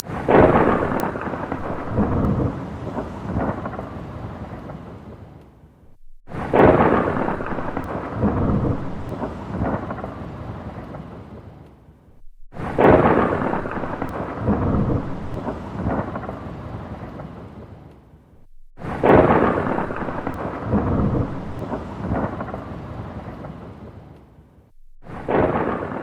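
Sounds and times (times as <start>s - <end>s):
thunder rumbling: 0.0s - 26.0s.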